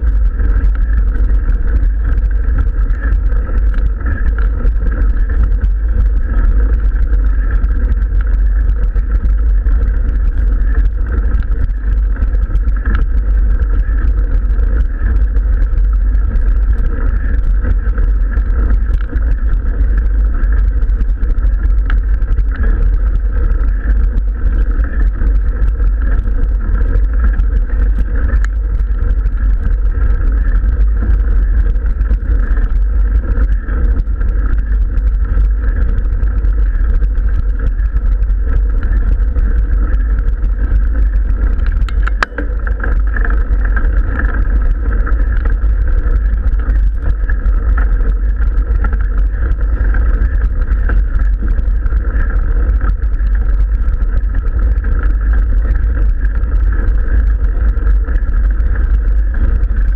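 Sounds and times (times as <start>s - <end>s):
loud wind rumble on microphone: 0.0s - 59.9s.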